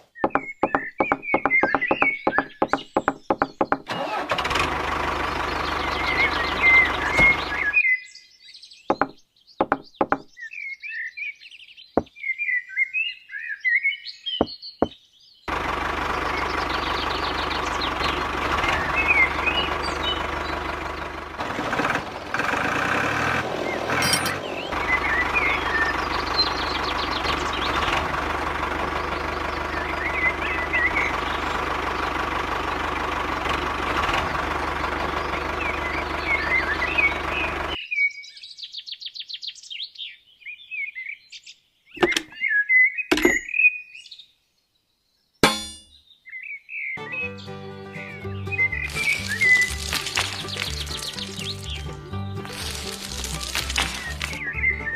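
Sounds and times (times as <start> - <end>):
birds chirping: 0.0 - 3.9, 5.2 - 21.4, 23.2 - 33.2, 34.3 - 54.9.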